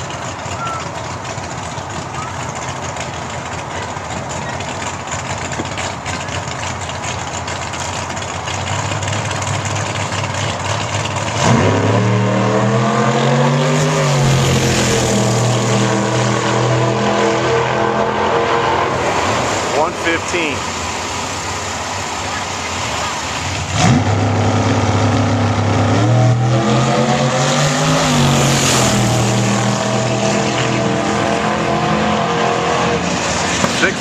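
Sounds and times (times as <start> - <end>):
engine revving to high idle: 0.0 - 20.5, 22.0 - 34.0
engine rumble: 0.0 - 34.0.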